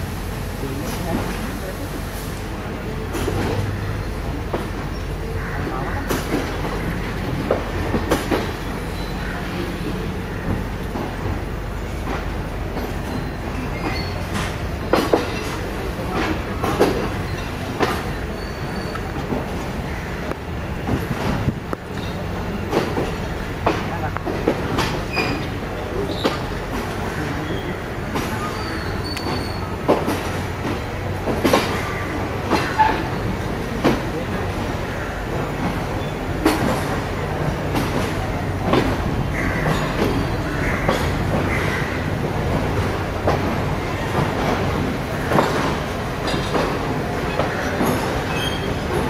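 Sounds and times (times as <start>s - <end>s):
train rumbling: 0.0s - 49.0s
wheels clacking over rail joints: 3.0s - 49.0s.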